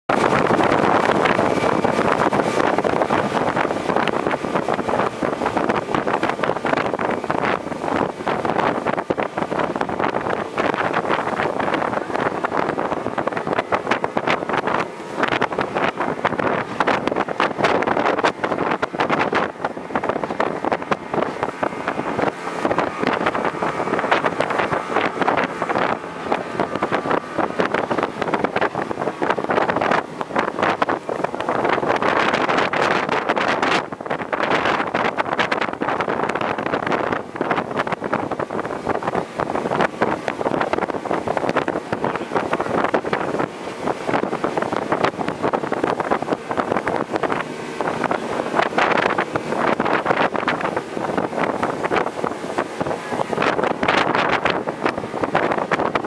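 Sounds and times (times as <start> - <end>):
rushing water: 0.0 - 56.0
speedboat engine: 0.0 - 56.0
wind buffeting microphone: 0.0 - 56.0.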